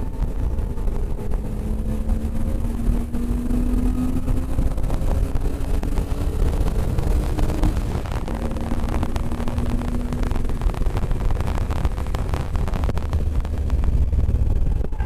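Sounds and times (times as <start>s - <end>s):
car engine accelerating: 0.0s - 15.0s
wind and road noise: 0.0s - 15.0s.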